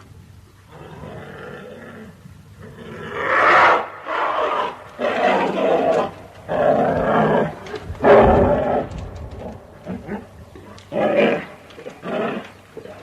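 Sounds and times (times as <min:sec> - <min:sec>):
bear growling: 0:00.7 - 0:13.0.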